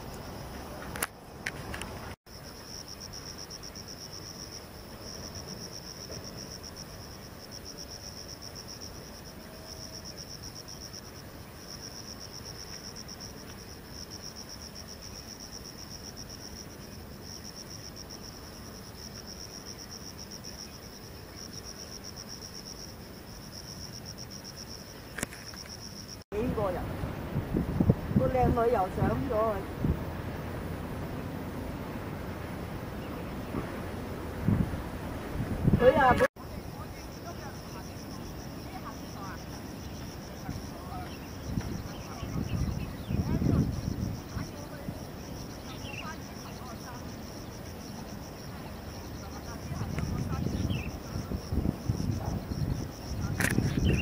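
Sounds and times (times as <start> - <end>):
high-pitched insect trill: 0.0 - 31.1, 35.6 - 54.0.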